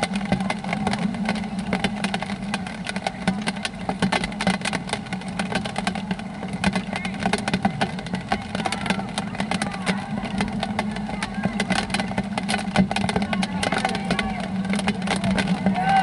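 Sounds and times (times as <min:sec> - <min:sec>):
rain tapping on umbrellas: 0:00.0 - 0:16.0.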